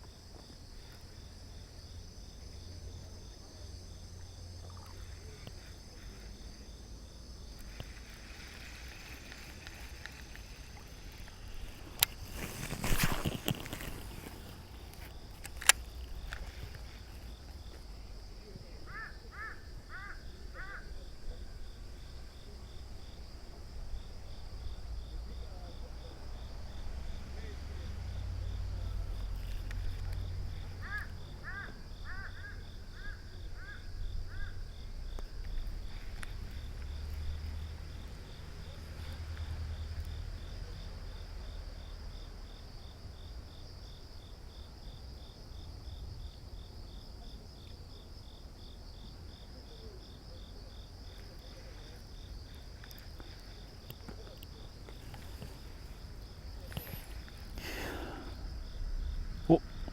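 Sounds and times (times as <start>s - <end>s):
insects trilling: 0.0s - 59.9s
low outdoor rumble: 0.0s - 59.9s.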